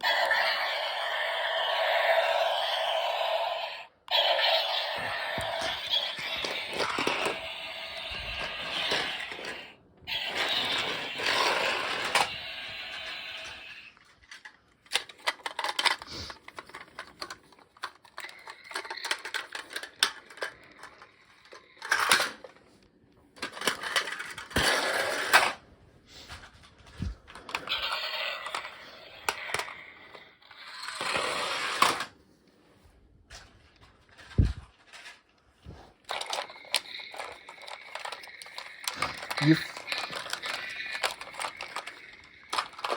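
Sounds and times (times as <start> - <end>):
toy trucks scraping or rolling: 0.0 - 22.7, 23.4 - 25.6, 26.2 - 32.2, 33.4 - 42.9
plastic toy trucks clicking: 4.9 - 25.6, 26.3 - 32.2, 33.6 - 42.9.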